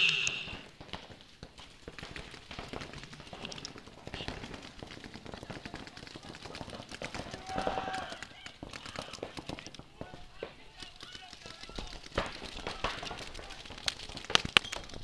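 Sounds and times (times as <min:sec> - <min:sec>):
paintball markers popping: 0:00.0 - 0:15.0
running footsteps: 0:00.0 - 0:15.0.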